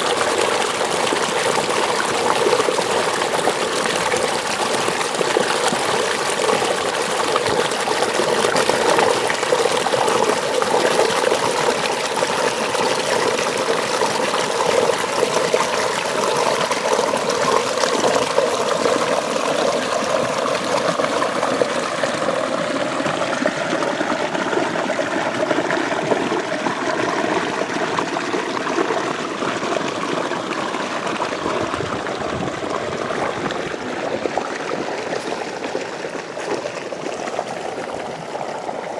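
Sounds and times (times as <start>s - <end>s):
water flowing in a ditch: 0.0s - 38.9s.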